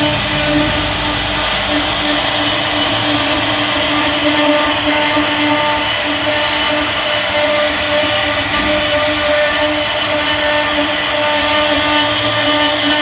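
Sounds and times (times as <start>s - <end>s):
router spindle carving wood: 0.0s - 13.0s.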